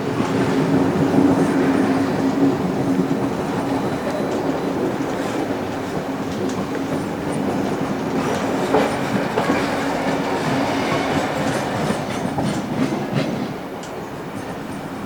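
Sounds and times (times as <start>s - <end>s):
train carriages rumbling: 0.0s - 15.0s
wheels clacking over rail joints: 0.0s - 15.0s.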